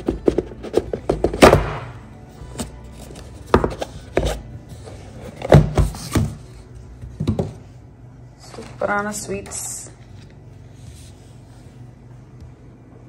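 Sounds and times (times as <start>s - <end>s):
background music: 0.0s - 11.6s.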